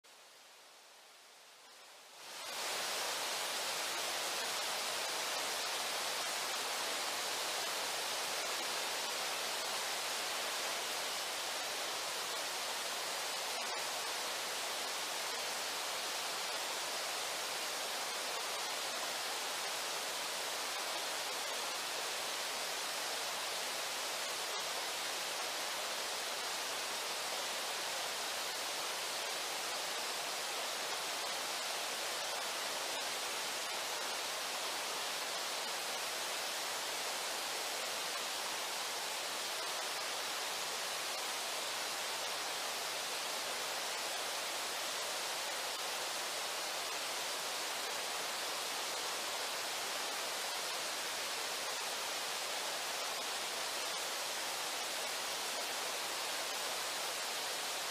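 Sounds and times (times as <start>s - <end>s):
river water rushing: 0.2s - 57.9s.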